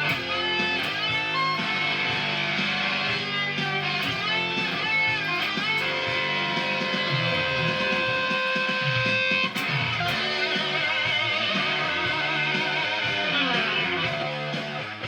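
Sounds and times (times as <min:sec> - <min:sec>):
fuzzed electric guitar notes: 0:00.0 - 0:15.0.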